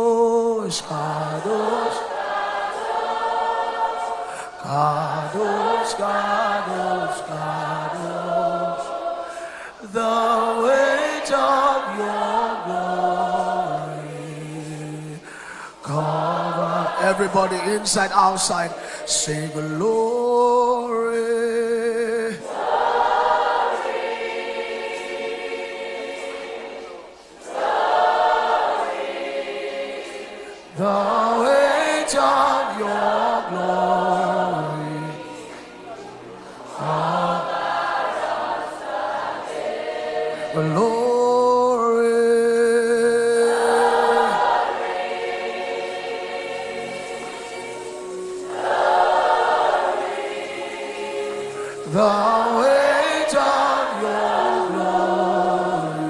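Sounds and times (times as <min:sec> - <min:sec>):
group of voices singing: 0:00.0 - 0:56.0.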